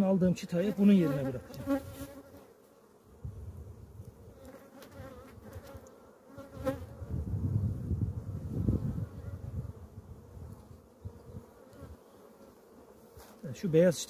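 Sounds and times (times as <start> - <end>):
honeybees buzzing: 0.2 - 14.0.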